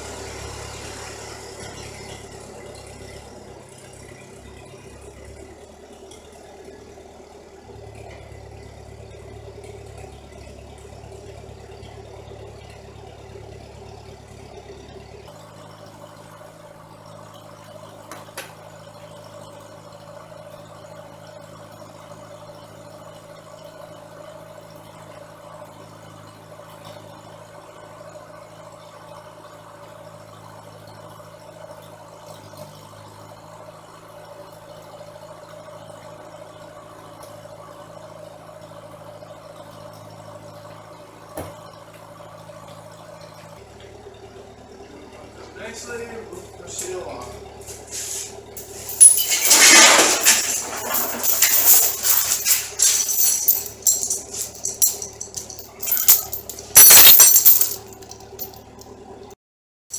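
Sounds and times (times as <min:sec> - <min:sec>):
vehicle engine idling: 0:00.0 - 0:59.4.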